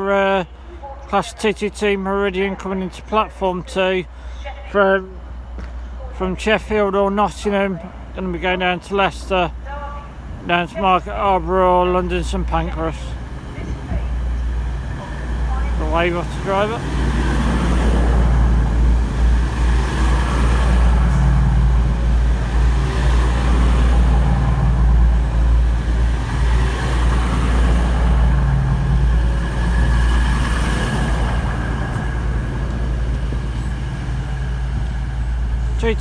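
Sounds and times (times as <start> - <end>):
diesel train engines droning: 0.0 - 36.0.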